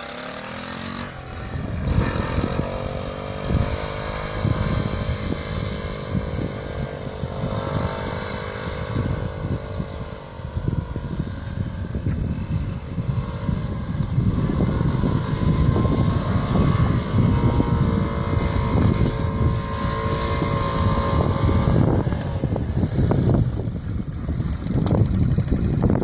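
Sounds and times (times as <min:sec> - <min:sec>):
motorcycle engine running: 0:00.0 - 0:26.0
wind rumble on microphone: 0:00.9 - 0:26.0.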